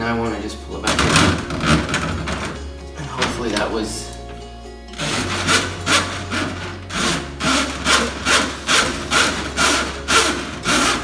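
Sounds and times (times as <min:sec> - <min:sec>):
drain snake cable scraping pipe: 0:00.1 - 0:11.0.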